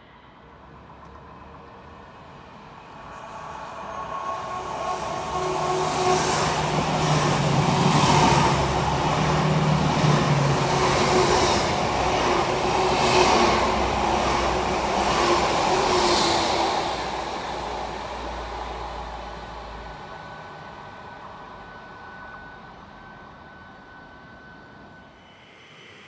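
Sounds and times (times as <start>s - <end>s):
electric train running past: 0.0s - 26.0s.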